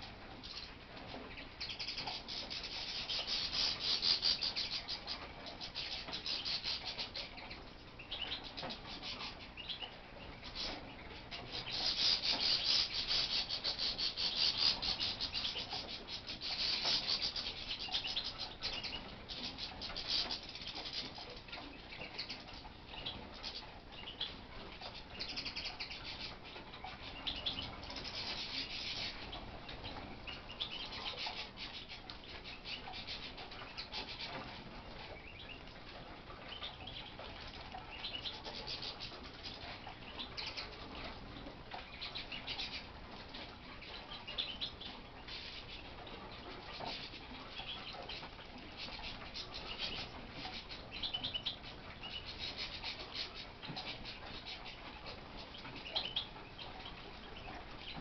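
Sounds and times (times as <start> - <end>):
finches chirping and twittering: 0.0 - 58.0.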